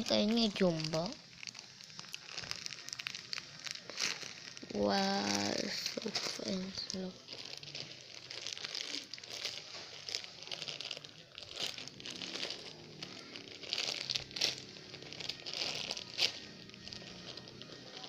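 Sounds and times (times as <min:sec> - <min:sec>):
paper and tape crinkling: 0:00.0 - 0:18.0.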